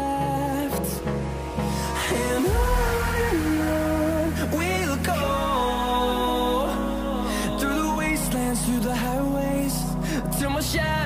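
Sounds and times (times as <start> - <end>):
pop song with sustained vocals: 0.0 - 11.0.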